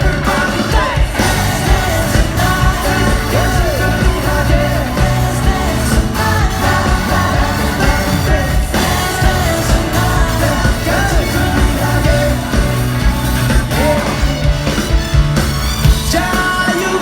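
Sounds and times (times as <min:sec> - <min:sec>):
person singing: 0:00.0 - 0:14.4, 0:16.0 - 0:17.0
drum hits: 0:00.0 - 0:16.7
bass: 0:00.0 - 0:17.0
pop-rock band playing: 0:00.0 - 0:17.0.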